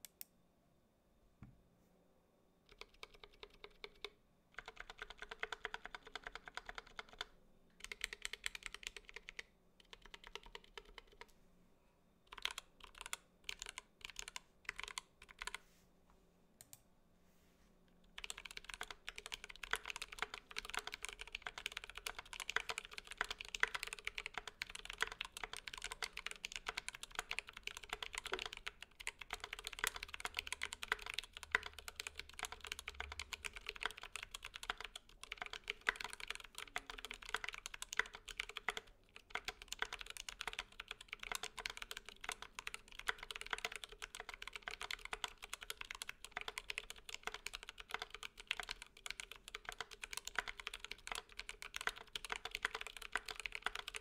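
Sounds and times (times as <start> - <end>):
mechanical keyboard typing: 2.7 - 11.3, 12.3 - 15.6, 18.1 - 54.0.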